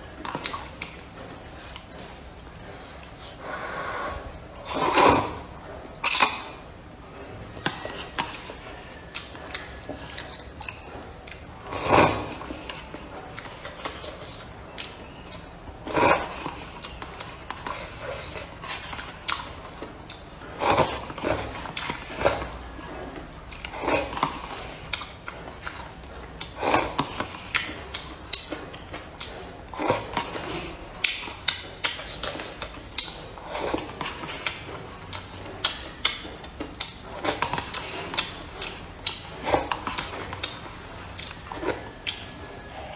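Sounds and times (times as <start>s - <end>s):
person chewing: 0.0s - 42.9s
noodles being slurped: 0.2s - 6.8s, 7.6s - 42.9s.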